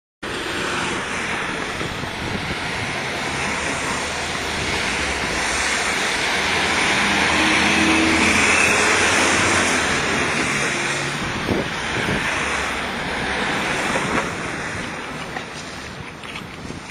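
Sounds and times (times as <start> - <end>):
rushing outdoor background noise: 0.2 - 16.9.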